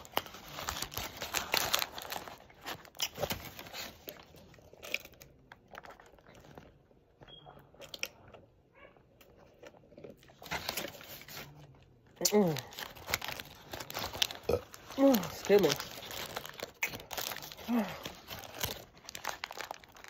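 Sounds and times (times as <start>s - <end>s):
paper wrapper crinkling: 0.0s - 6.7s, 10.3s - 20.0s
open-mouthed chewing: 2.9s - 20.0s.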